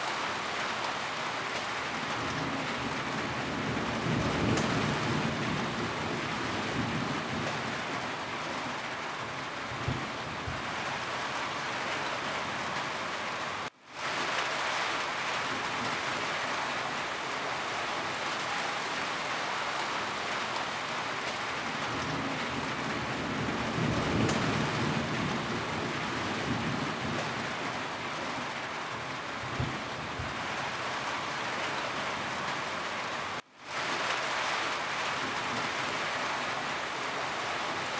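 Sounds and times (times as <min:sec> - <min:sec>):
rain on a roof: 0:00.0 - 0:37.9.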